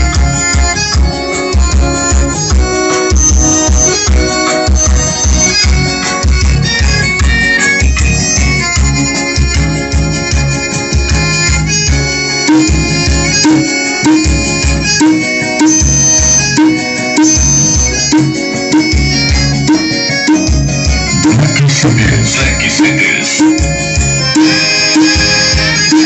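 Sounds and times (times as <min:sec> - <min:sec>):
loud music with heavy bass beat: 0:00.0 - 0:26.0.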